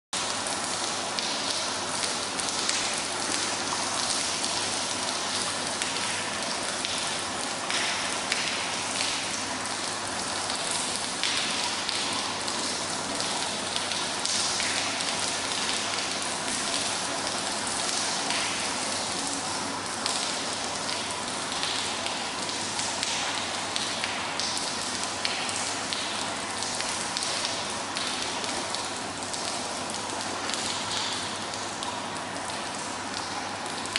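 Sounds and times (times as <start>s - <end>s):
rain splashing on wet floor: 0.2s - 33.9s.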